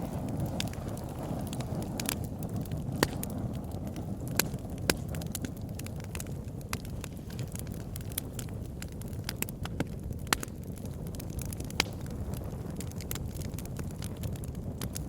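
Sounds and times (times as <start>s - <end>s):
burning wood crackling and popping: 0.0s - 15.0s
campfire rumble: 0.0s - 15.0s.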